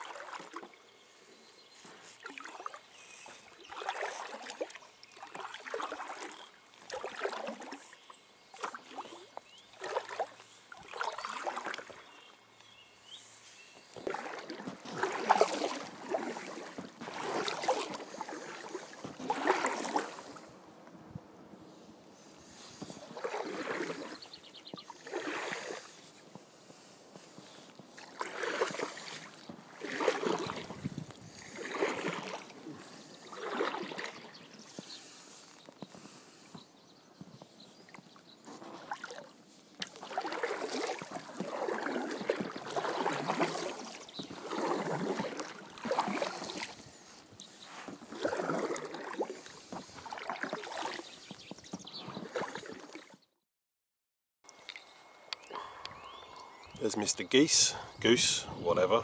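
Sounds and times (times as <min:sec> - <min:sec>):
paddle splashing in water: 0:00.0 - 0:01.2, 0:01.8 - 0:12.4, 0:13.7 - 0:20.6, 0:22.4 - 0:36.6, 0:37.4 - 0:53.2.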